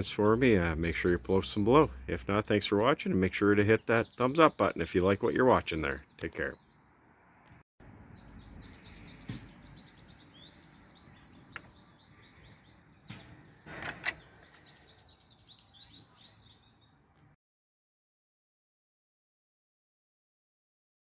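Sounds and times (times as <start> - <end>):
faint outdoor noise: 0.0 - 17.4
small birds chirping: 0.0 - 17.4.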